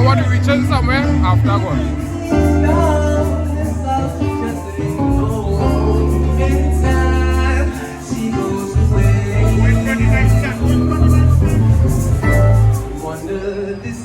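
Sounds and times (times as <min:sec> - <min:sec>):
sustained bass notes: 0:00.0 - 0:13.4
band music with singing: 0:00.0 - 0:14.0.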